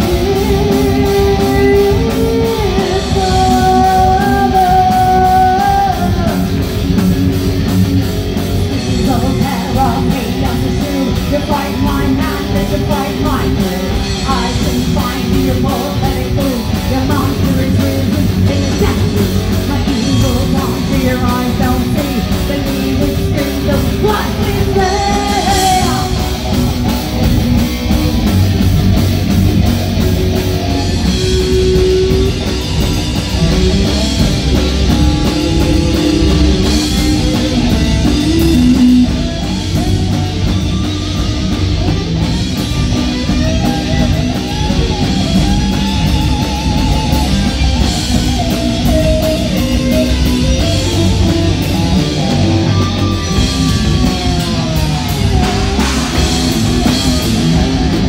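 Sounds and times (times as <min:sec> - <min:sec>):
bass guitar: 0:00.0 - 0:58.0
drum kit: 0:00.0 - 0:58.0
electric guitars melody: 0:00.0 - 0:58.0.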